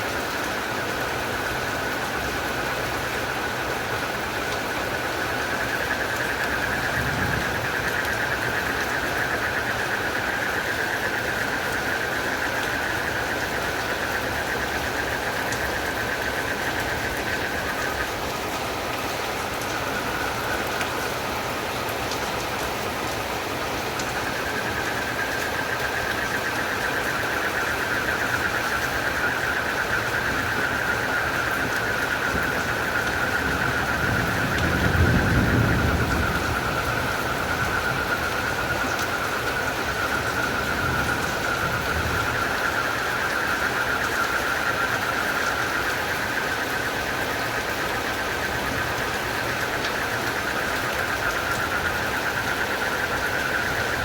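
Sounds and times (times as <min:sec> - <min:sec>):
frogs and crickets trilling: 0:00.0 - 0:54.0
steady rain: 0:00.0 - 0:54.0.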